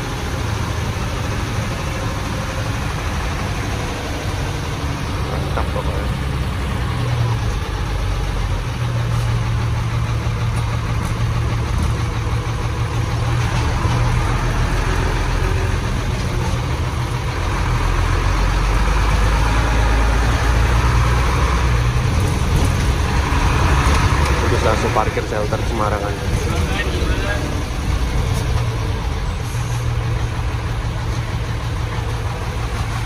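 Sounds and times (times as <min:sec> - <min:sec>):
diesel bus engine rumbling: 0:00.0 - 0:33.0.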